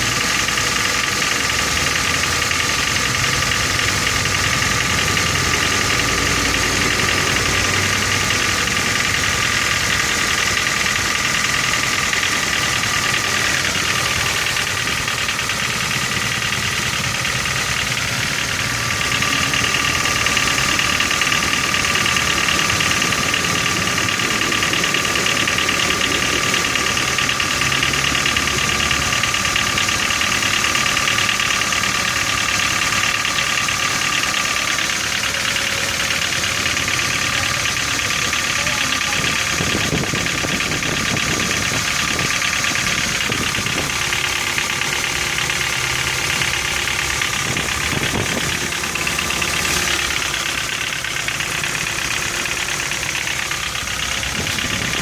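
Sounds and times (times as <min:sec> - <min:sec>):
car engine idling with knock: 0:00.0 - 0:55.0.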